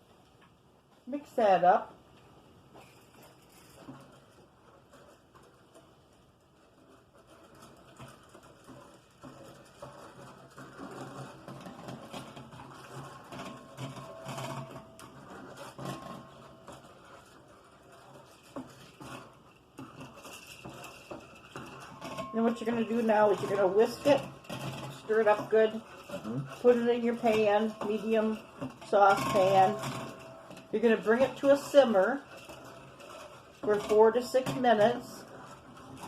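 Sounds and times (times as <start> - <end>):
utensil stirring sauce in bowl: 2.8 - 36.0.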